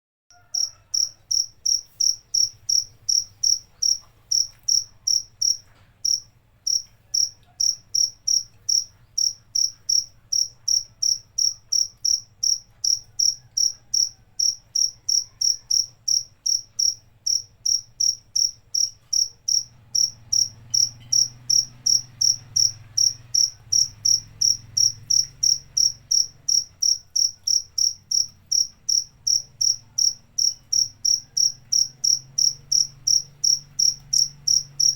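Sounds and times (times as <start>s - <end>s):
cricket chirping: 0.3s - 34.9s.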